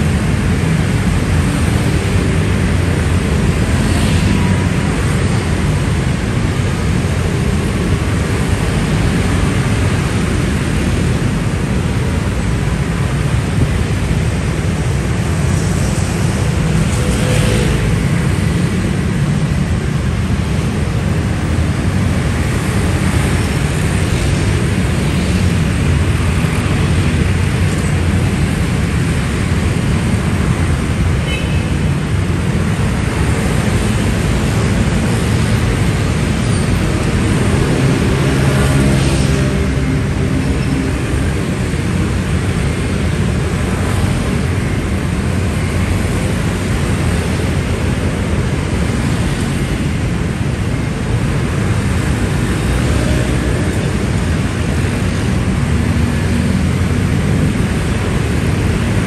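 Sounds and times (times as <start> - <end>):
dense road traffic rumble: 0.0 - 59.0.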